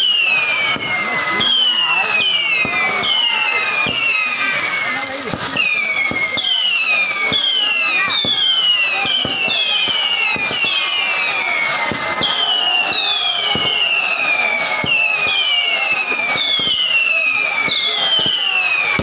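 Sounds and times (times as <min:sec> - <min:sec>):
whistling firework rockets: 0:00.0 - 0:19.0.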